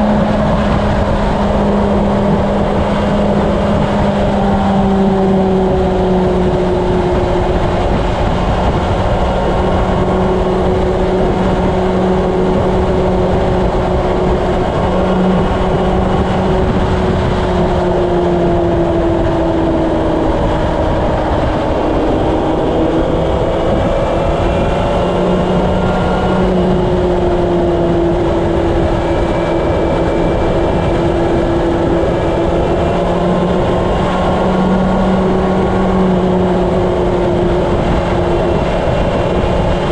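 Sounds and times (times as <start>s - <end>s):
motorcycle engine cruising: 0.0s - 39.9s
road noise: 0.0s - 39.9s
wind noise on microphone: 0.0s - 39.9s.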